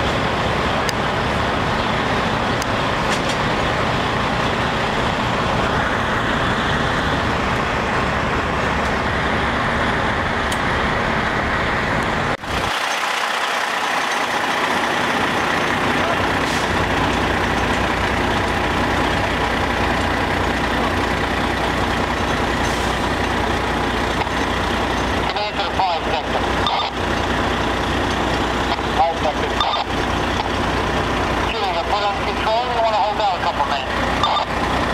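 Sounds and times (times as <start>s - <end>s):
fire engines running: 0.0s - 34.9s.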